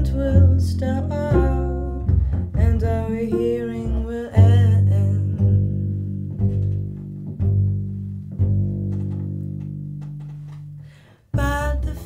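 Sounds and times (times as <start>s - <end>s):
low ringing bass notes: 0.0s - 12.0s.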